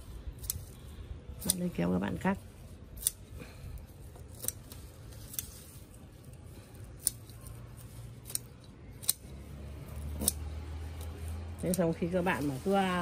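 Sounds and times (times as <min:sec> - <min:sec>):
scissors snipping stems: 0:00.2 - 0:03.5, 0:04.2 - 0:05.8, 0:06.6 - 0:13.0.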